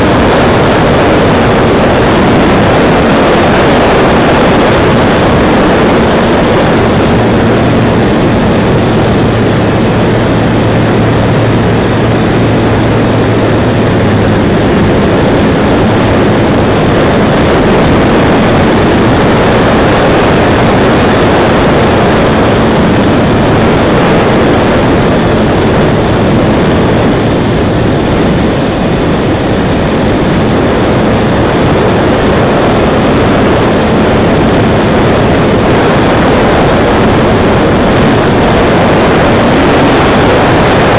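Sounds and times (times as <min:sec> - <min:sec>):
electric motor and propeller hum: 0:00.0 - 0:40.9
wind rushing over microphone: 0:00.0 - 0:40.9.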